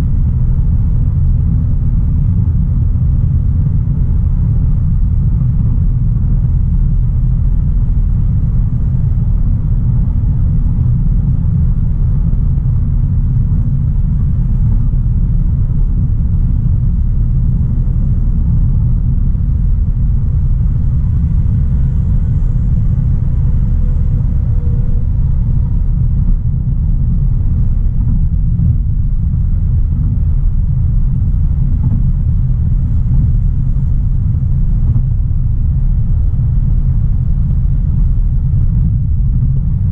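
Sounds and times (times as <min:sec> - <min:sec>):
car engine rumble: 0:00.0 - 0:39.9
road noise: 0:04.1 - 0:39.8.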